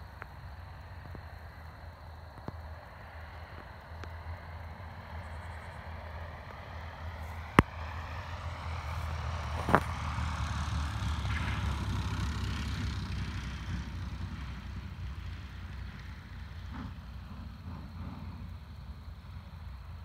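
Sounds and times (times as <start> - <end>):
light aircraft engine rumble: 0.0 - 20.0.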